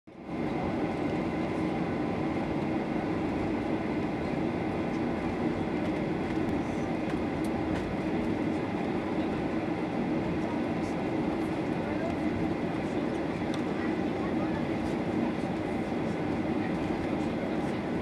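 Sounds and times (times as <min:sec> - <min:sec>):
airplane cabin engine hum: 0:00.1 - 0:18.0.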